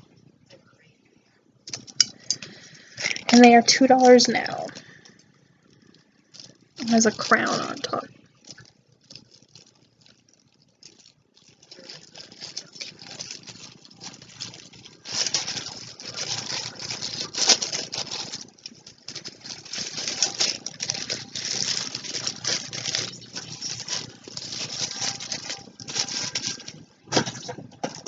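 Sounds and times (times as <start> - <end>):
plastic packaging crinkling: 1.6 - 28.0.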